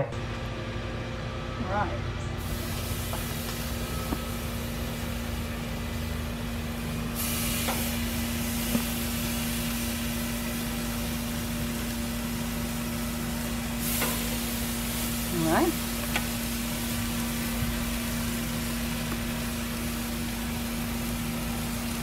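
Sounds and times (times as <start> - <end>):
steady low hum: 0.0 - 22.0
chicken sizzling on grill: 2.4 - 22.0.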